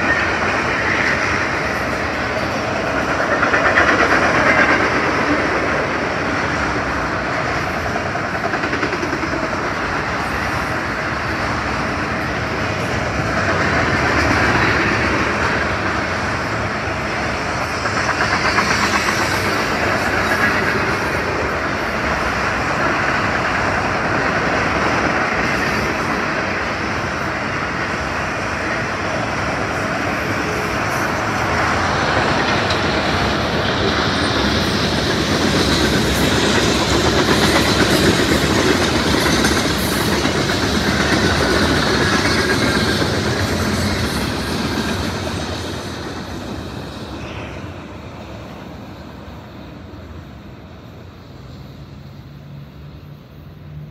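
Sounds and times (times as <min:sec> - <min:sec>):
train wheels running on rails: 0:00.0 - 0:53.9.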